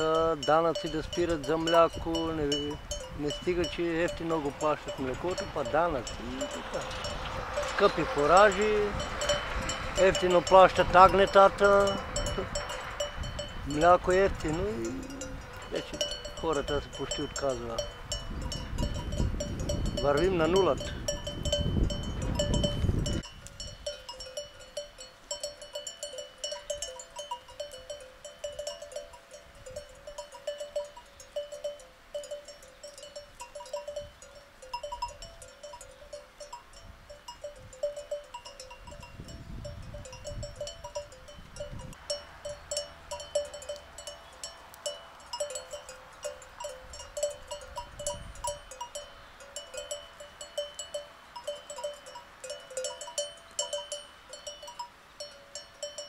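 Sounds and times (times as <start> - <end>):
sheep bells clinking: 0.0 - 56.0.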